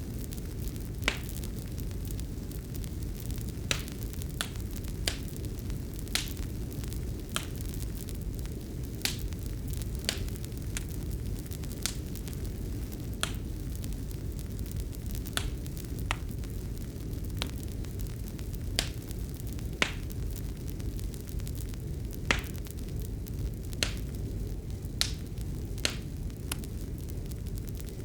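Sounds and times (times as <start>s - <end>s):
fire rumbling in fireplace: 0.0s - 28.0s
wood fire pops and snaps: 0.1s - 28.0s.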